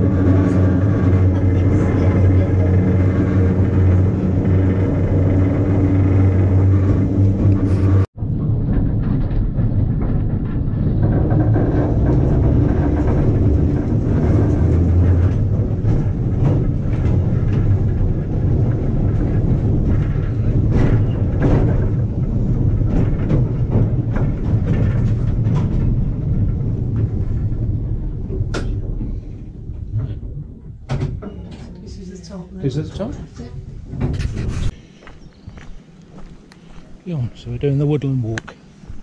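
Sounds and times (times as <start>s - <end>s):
tram rumbling along track: 0.0s - 39.0s.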